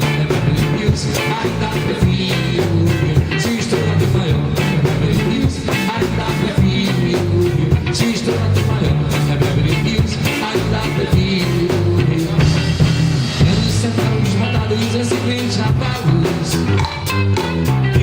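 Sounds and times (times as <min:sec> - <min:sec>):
drum and percussion beat: 0:00.0 - 0:18.0
live band playing dance music: 0:00.0 - 0:18.0
stepping bass line: 0:00.0 - 0:18.0.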